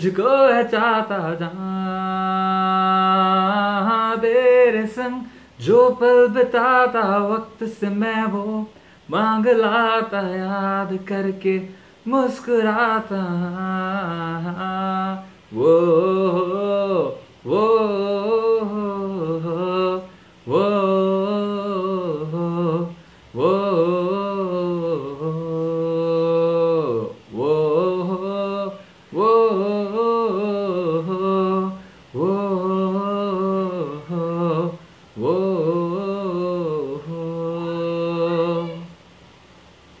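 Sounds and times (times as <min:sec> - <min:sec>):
man singing wordless melody: 0:00.0 - 0:39.1.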